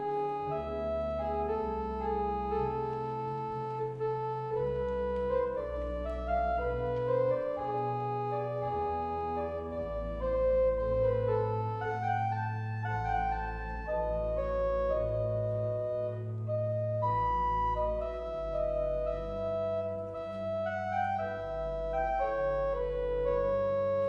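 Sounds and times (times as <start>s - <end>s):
pipe organ chords: 0.0s - 24.0s.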